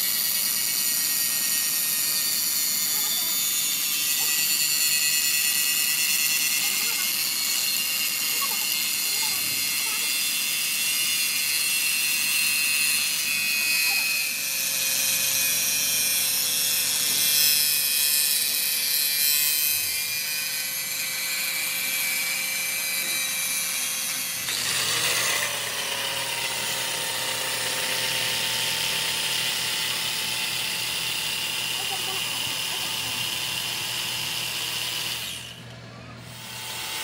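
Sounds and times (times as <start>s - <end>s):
angle grinder grinding steel: 0.0s - 37.0s.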